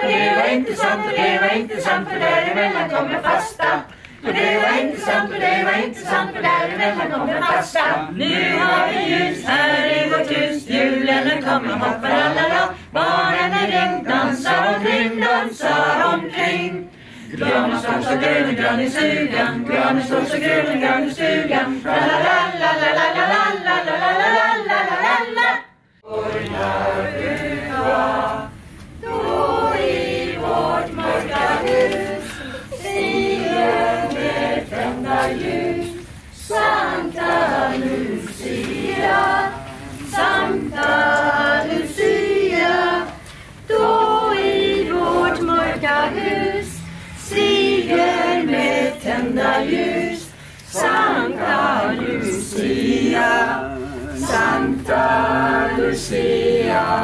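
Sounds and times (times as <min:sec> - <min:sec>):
group singing unaccompanied: 0:00.0 - 0:57.0.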